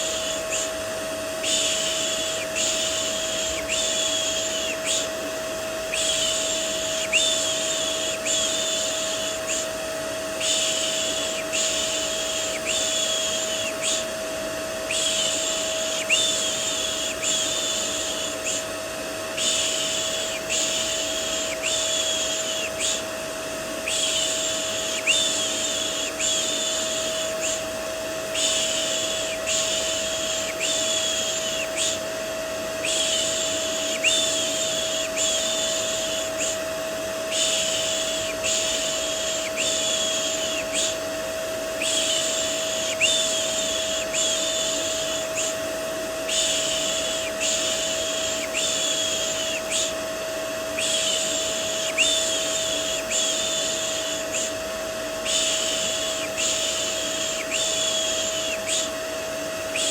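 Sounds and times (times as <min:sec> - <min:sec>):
vacuum cleaner droning: 0:00.0 - 0:59.9.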